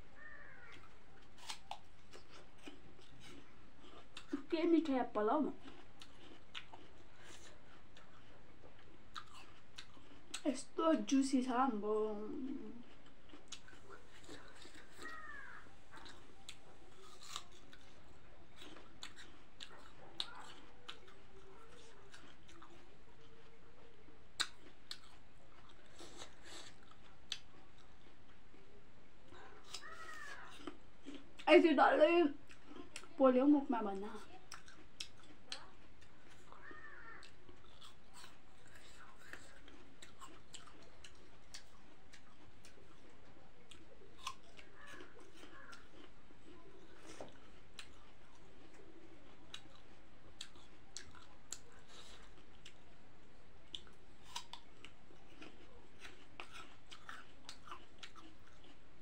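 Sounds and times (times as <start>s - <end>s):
apple chewing and crunching: 0.0s - 59.0s.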